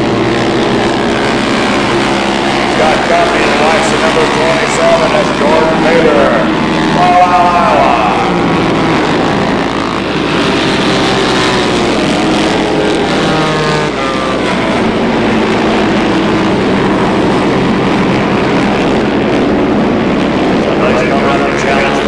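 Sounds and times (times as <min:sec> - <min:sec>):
racing motorcycle engines: 0:00.0 - 0:22.0.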